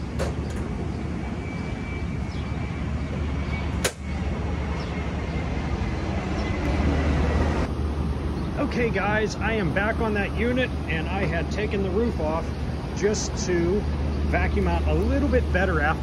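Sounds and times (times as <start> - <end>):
blower hum with high whine: 0.0 - 16.0.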